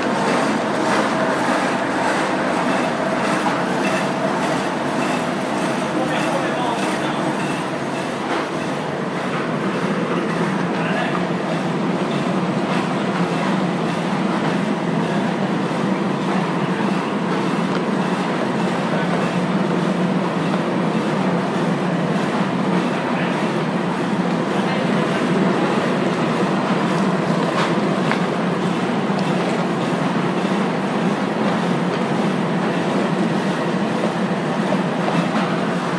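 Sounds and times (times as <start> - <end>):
packaging machine clatter and hum: 0.0 - 35.9.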